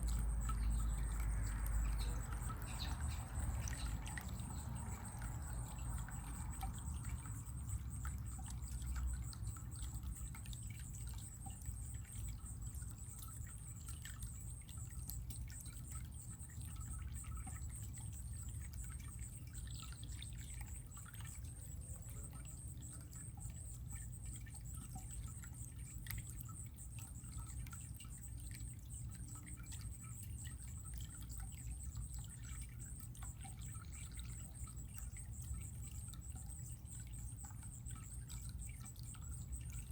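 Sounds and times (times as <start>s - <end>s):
water drips and splashes: 0.0s - 39.9s
water trickling: 0.0s - 39.9s.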